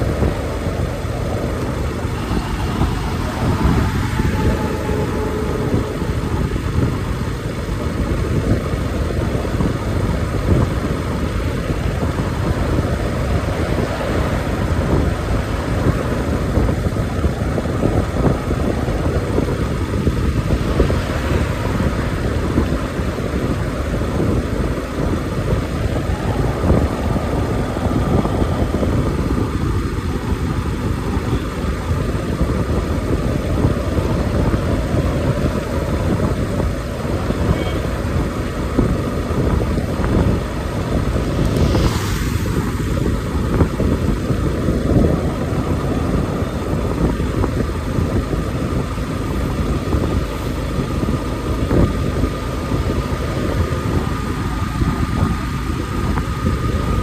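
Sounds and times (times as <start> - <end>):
motorcycle engine cruising: 0.0 - 57.0
road noise: 0.0 - 57.0
wind rushing on microphone: 0.0 - 57.0.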